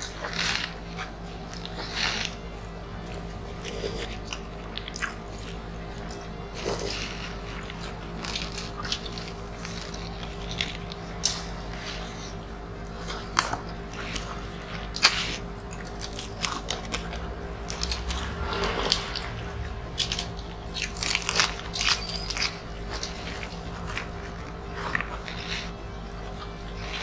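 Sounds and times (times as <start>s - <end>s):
people chewing with wet mouth smacks: 0.0s - 27.0s.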